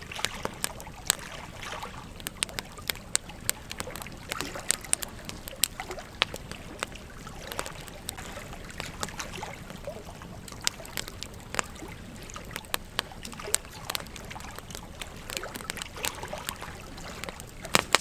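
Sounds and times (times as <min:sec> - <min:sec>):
campfire crackling and popping: 0:00.0 - 0:18.0
stream trickling: 0:00.0 - 0:18.0.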